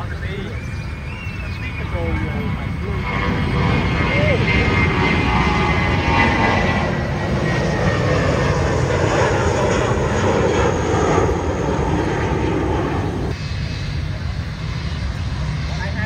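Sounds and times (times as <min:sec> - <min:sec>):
faint jet engine whine: 0:00.0 - 0:16.0
jet engines rumbling: 0:00.0 - 0:16.0.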